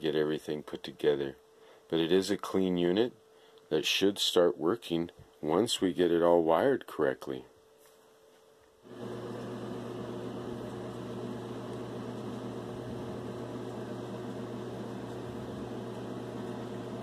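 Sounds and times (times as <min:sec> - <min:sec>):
mains hum: 0:00.0 - 0:17.0.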